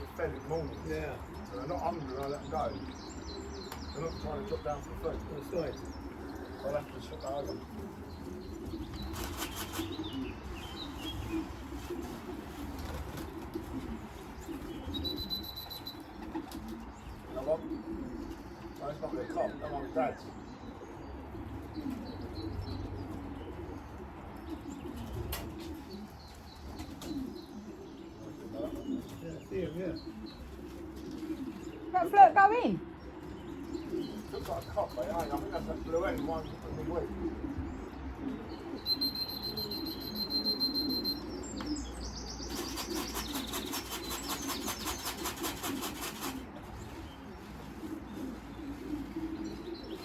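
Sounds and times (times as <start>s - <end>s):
pigeons cooing: 0.0s - 50.0s
small birds chirping faintly: 0.0s - 50.0s.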